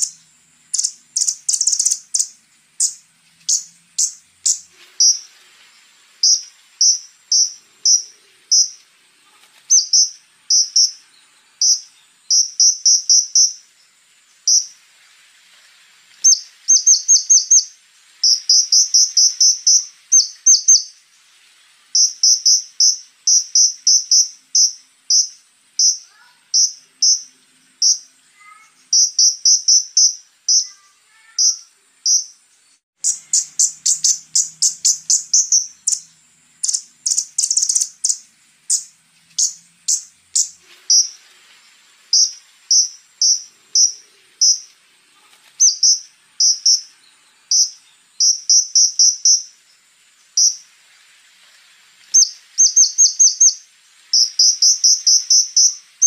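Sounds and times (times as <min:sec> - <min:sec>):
sunbird singing rattling chips: 0:00.0 - 0:14.9, 0:16.1 - 0:21.0, 0:21.6 - 0:32.4, 0:33.0 - 0:56.0
faint high-pitched hiss: 0:00.0 - 0:56.0.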